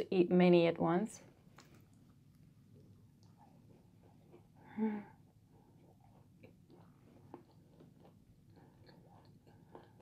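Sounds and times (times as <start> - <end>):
closed-mouth chewing: 1.5 - 10.0.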